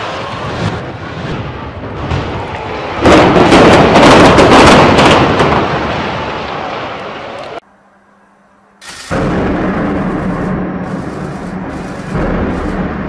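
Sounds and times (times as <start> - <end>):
building collapsing rumble: 0.0 - 7.4, 9.1 - 13.0
demolition blasts: 0.0 - 7.4, 8.9 - 13.0.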